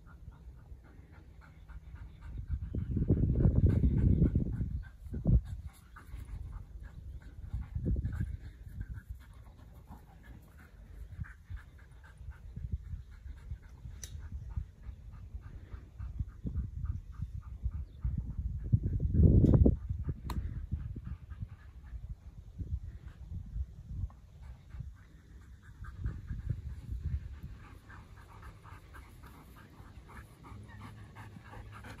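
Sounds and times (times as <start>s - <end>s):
dog panting rapidly: 0.0s - 32.0s.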